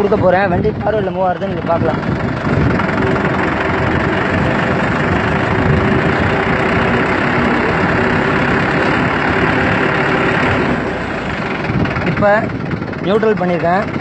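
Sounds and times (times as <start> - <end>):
diesel tractor engine running: 0.0 - 14.0.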